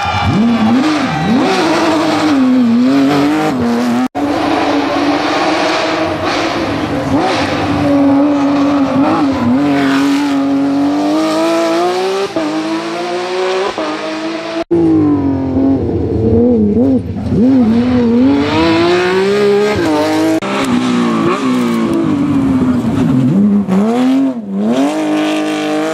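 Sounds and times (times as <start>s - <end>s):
rally car engine at high revs: 0.0s - 25.9s.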